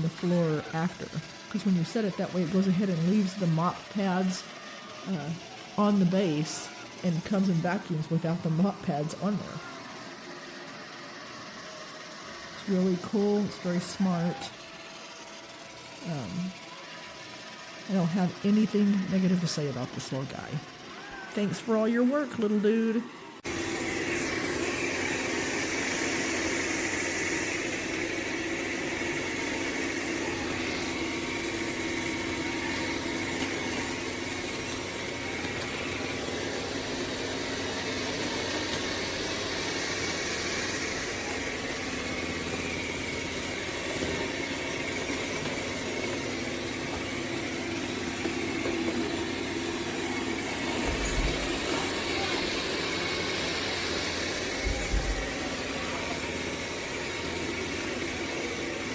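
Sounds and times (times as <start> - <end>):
robot vacuum whirring: 0.0 - 58.9.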